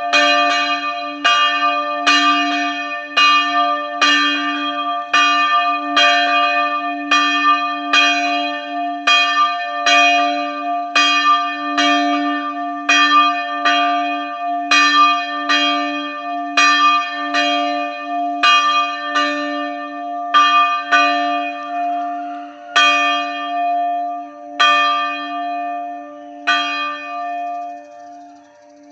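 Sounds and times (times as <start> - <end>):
church bell ringing: 0.0 - 28.9.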